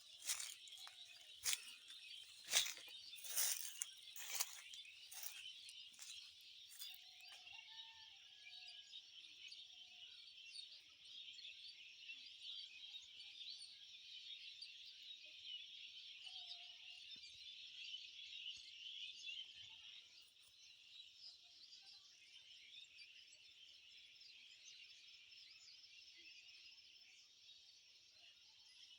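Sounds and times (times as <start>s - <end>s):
chorus of birds chirping: 0.0s - 28.9s.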